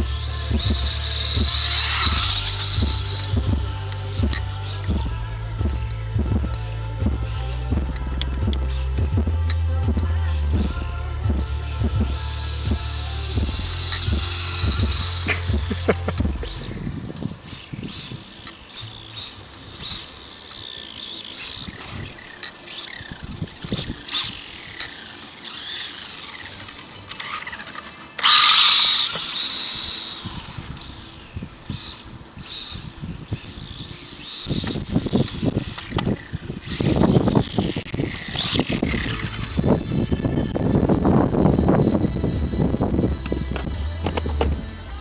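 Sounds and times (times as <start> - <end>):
electric motor whining: 0.0 - 45.0.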